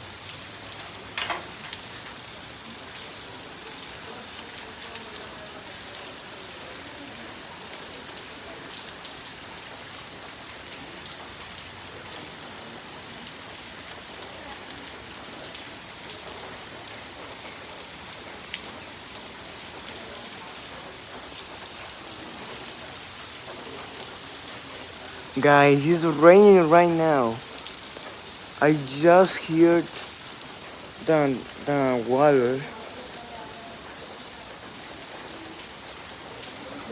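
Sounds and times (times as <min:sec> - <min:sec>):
light rain falling: 0:00.0 - 0:36.9
sharp ticks of raindrops: 0:00.0 - 0:36.9.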